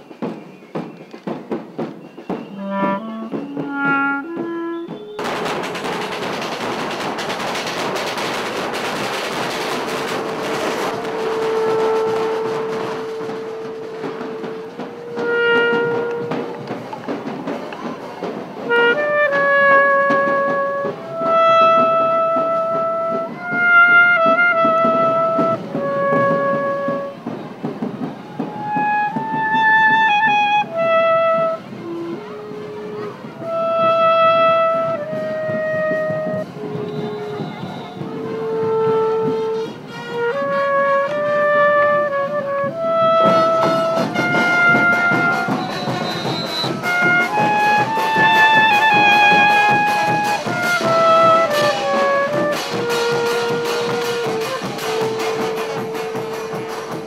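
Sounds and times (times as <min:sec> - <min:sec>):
drum beating: 0:00.0 - 0:57.0
brass band playing slow melody: 0:02.5 - 0:57.0.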